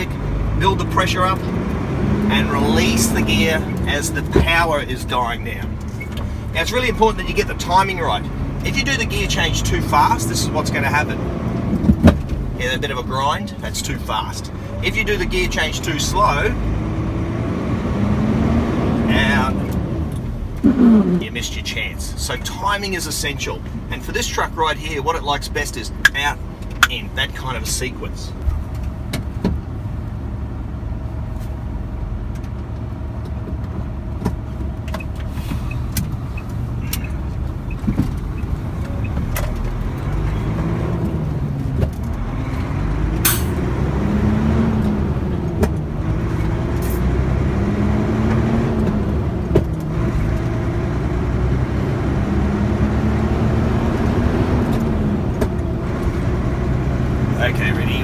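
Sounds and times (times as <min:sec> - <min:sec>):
truck engine revving: 0:00.0 - 0:28.4, 0:34.7 - 0:58.0.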